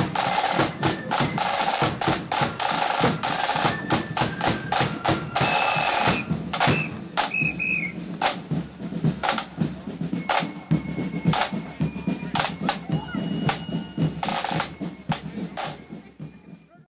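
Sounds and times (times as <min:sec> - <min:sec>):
snare drums playing: 0:00.0 - 0:16.9.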